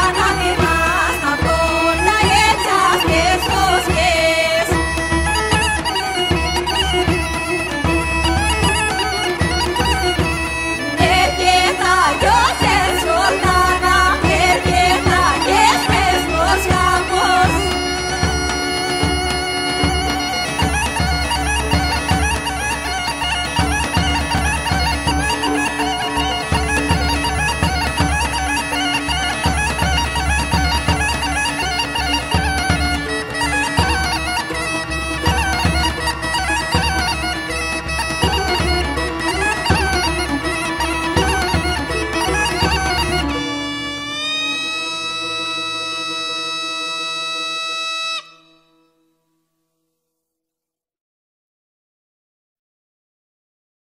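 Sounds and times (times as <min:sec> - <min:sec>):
drum beating: 0:00.0 - 0:43.6
bagpipe playing fast dance tune: 0:00.0 - 0:49.0.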